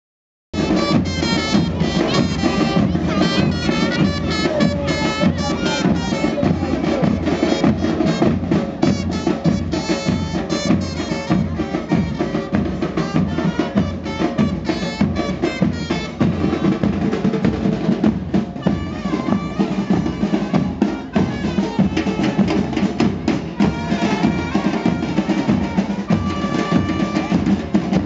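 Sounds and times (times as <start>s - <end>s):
bass drums with cymbal beating: 0.6s - 28.0s
trumpets playing a melody: 0.6s - 28.0s.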